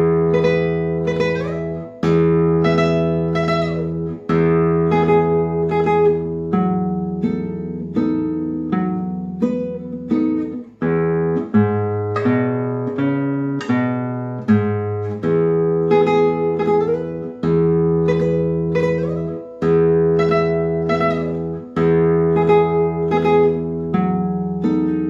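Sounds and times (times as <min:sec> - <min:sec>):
classical guitar fingerstyle: 0:00.0 - 0:25.0.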